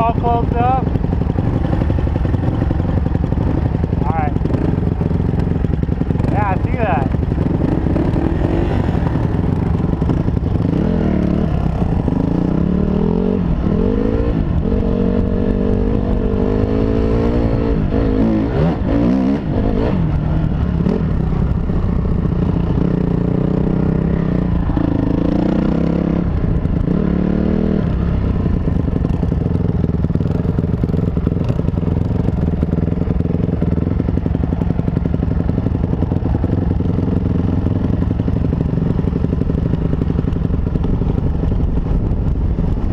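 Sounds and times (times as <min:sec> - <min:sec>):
motorcycle engine riding: 0:00.0 - 0:42.9.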